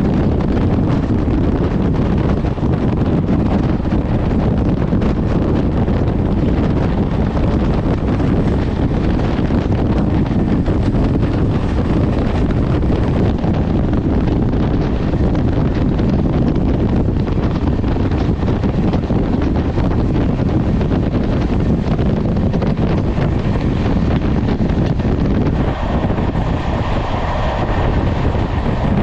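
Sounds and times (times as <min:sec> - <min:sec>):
train coaches rumbling on rails: 0:00.0 - 0:29.0
wind rushing over microphone: 0:00.0 - 0:29.0.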